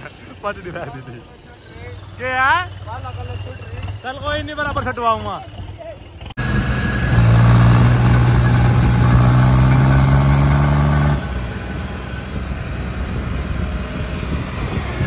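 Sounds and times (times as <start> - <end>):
tractor diesel engines under load: 0.0 - 15.0.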